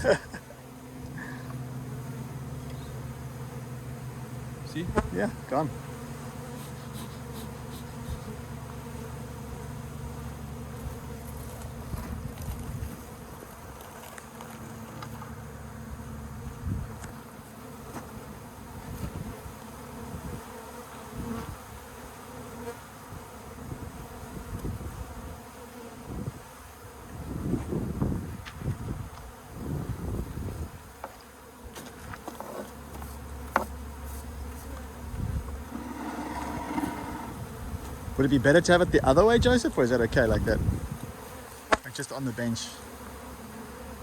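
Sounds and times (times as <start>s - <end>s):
bees buzzing: 0.0s - 38.7s, 39.8s - 44.0s.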